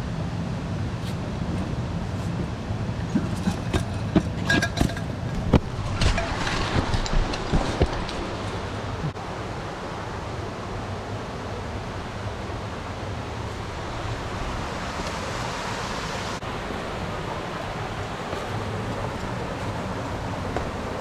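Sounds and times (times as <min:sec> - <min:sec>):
rushing mountain stream: 0:01.3 - 0:21.0.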